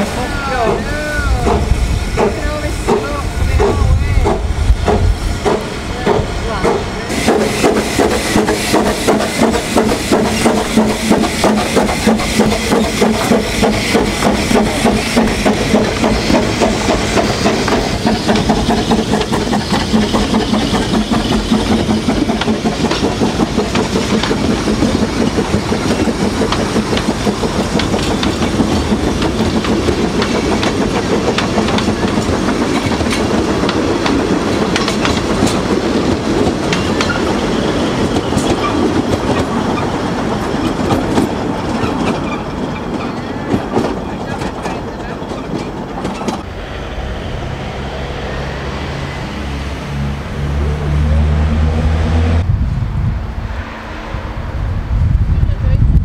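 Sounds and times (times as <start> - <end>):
coaches clicking over rail joints: 0.0 - 46.6
steam locomotive chuffing: 0.0 - 52.4.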